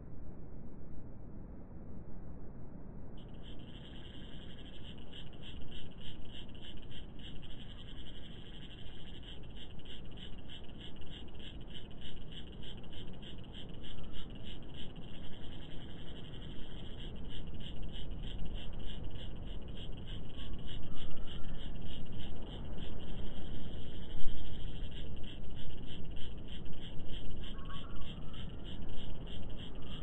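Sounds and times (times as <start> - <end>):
rhythmic high-pitched chirping: 3.2 - 30.0
steady low rumble: 3.2 - 30.0.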